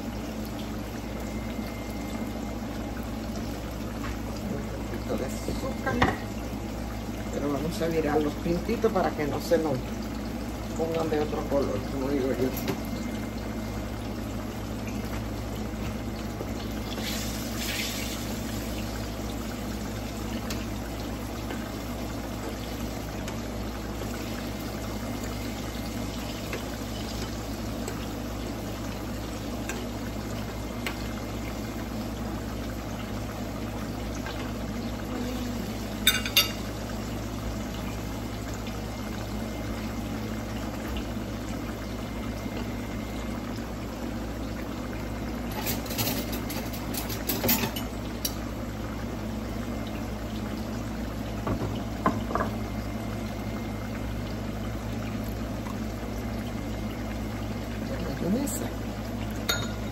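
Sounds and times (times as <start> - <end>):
plantain sizzling in oil: 0.0 - 59.9.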